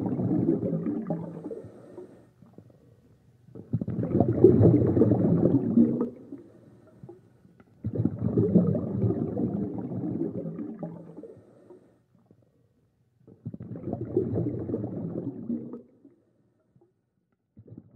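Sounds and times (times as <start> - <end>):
underwater regulator bubbles: 0.0 - 12.4, 13.2 - 16.9.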